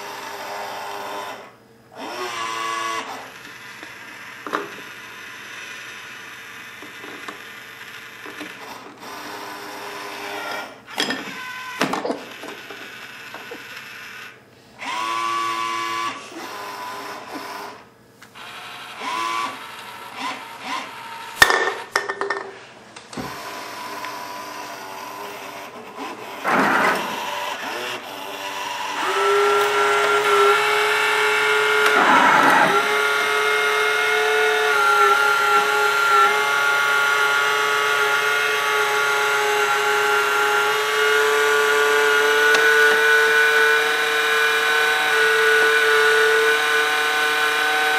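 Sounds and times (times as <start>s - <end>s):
electric motors whirring: 0.0s - 21.4s, 23.1s - 47.9s.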